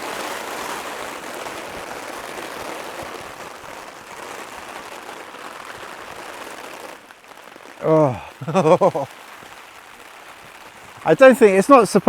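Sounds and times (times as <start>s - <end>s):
heavy rain on tent flysheet: 0.0s - 12.0s.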